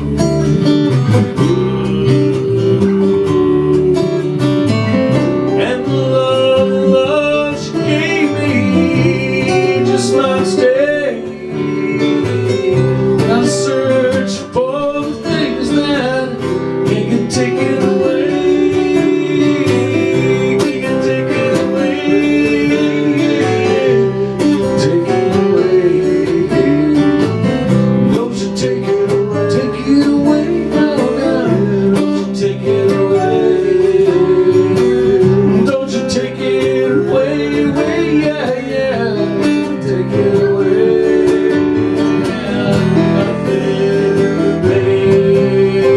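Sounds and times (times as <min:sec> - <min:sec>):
acoustic guitar country music: 0:00.0 - 0:45.9.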